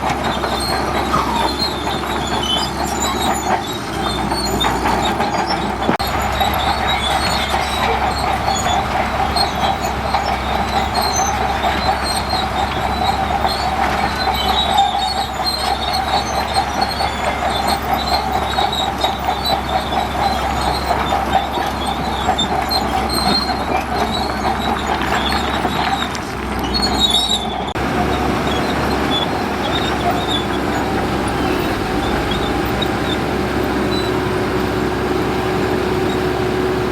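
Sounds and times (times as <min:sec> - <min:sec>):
bulldozer engine: 0:00.0 - 0:36.9
steel tracks squealing and clanking: 0:00.0 - 0:36.9.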